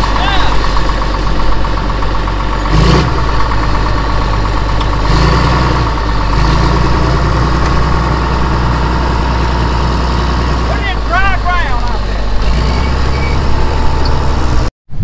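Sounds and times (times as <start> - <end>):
bulldozer engine under load: 0.0 - 15.0.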